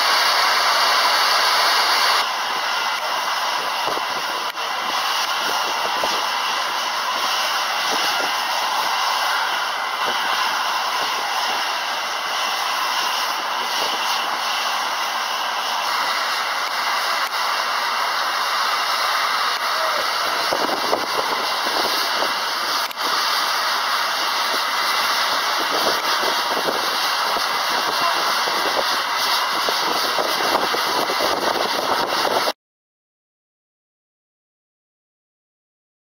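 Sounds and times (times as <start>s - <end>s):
high-pressure water jet hissing: 0.0s - 32.6s.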